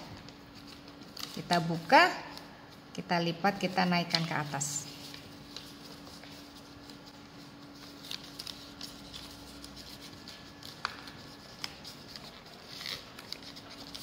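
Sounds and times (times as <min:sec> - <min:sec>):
paper being folded and creased: 0:00.0 - 0:02.5, 0:03.6 - 0:14.0.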